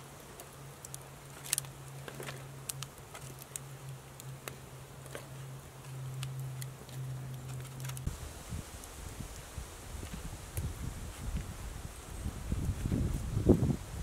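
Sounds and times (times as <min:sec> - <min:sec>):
campfire crackling: 0:00.0 - 0:14.0
low steady hum: 0:00.0 - 0:14.0.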